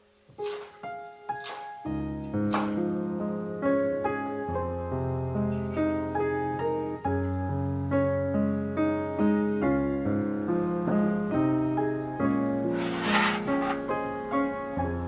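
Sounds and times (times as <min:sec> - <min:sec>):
slow piano music: 0:00.4 - 0:15.0.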